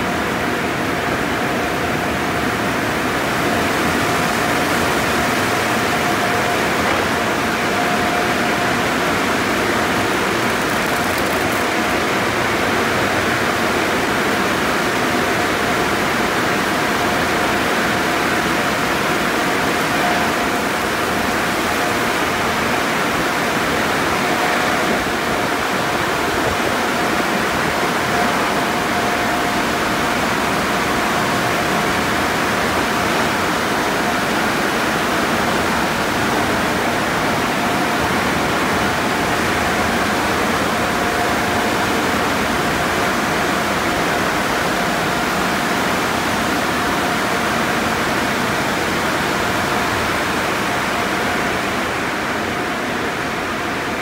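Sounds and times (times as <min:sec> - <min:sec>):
machinery noise: 0:02.8 - 0:53.6.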